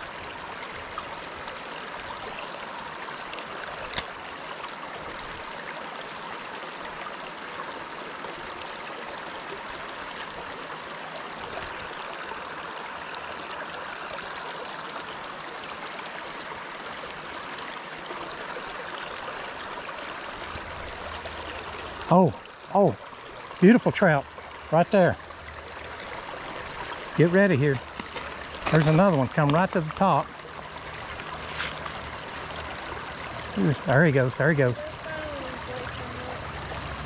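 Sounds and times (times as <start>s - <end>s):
stream running over rocks: 0.0s - 37.0s.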